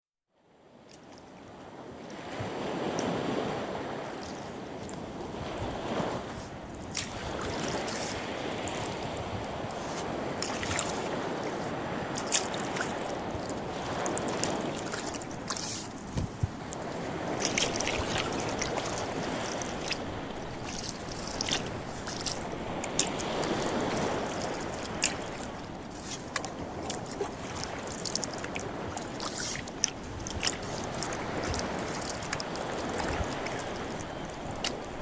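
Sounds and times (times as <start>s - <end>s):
oars splashing in water: 2.1s - 35.0s.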